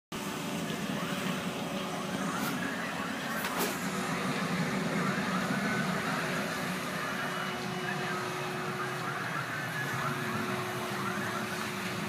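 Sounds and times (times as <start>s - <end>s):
heavy engines idling: 0.1s - 12.0s.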